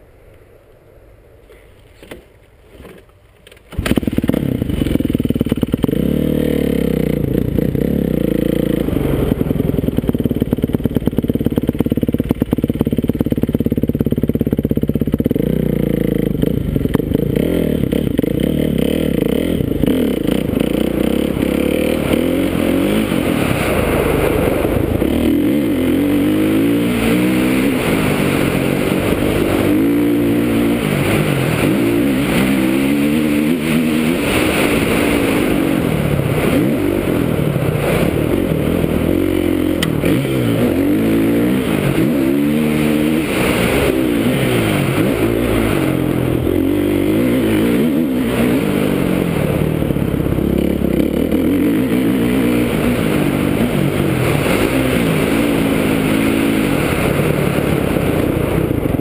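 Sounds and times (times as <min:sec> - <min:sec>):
motocross bike engine revving: 0:03.7 - 0:59.0.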